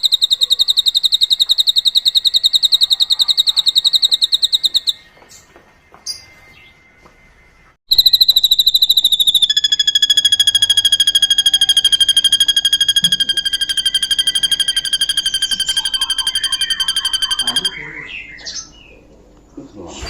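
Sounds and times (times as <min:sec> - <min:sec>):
bird singing high trill: 0:00.0 - 0:05.1, 0:07.9 - 0:19.1.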